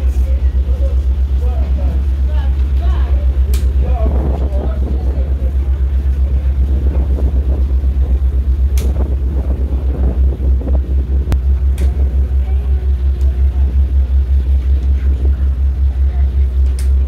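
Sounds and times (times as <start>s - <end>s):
ferry engines throbbing: 0.0s - 17.0s.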